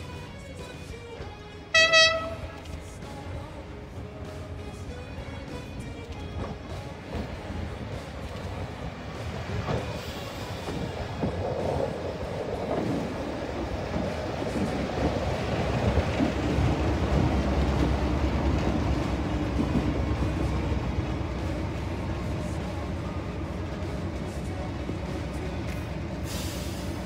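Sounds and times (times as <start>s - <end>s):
train rumbling on rails: 0.0s - 27.0s.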